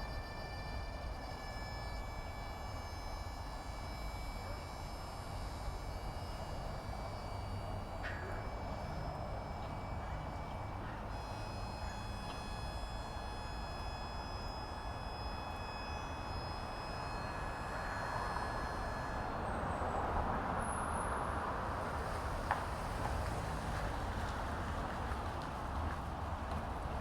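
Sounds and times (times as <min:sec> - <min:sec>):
high steady whine: 0:00.0 - 0:22.1
low rumble of distant traffic: 0:00.0 - 0:27.0.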